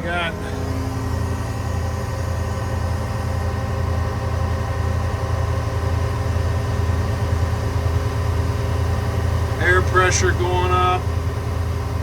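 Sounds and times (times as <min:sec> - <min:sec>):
air compressor running: 0:00.0 - 0:12.0
diesel engine running: 0:00.0 - 0:12.0.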